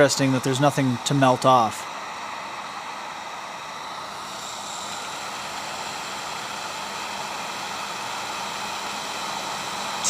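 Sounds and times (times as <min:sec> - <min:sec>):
heat gun blowing hot air: 0:00.0 - 0:10.0.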